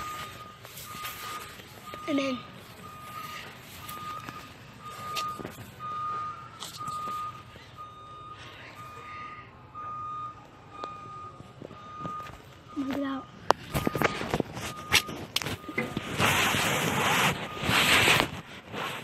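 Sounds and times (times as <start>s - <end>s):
backup alarm beeping: 0.0s - 17.9s.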